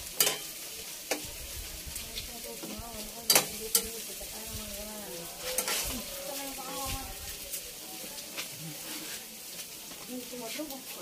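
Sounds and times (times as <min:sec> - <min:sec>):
pork sizzling on a grill: 0:00.0 - 0:11.0.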